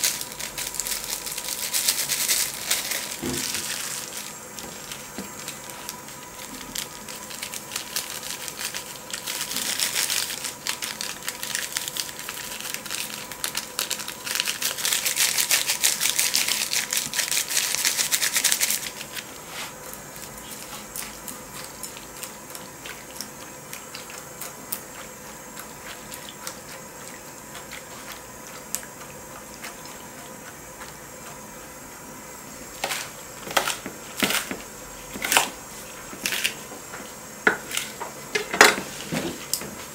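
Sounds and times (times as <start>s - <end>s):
food sizzling and crackling: 0.0s - 39.9s.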